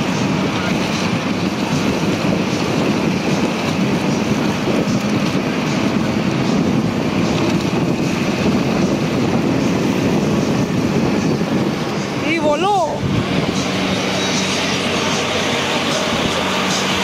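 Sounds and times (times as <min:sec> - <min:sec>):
boat motor drone: 0:00.0 - 0:17.0
choppy water washing: 0:00.0 - 0:17.0
wind buffeting microphone: 0:00.0 - 0:17.0.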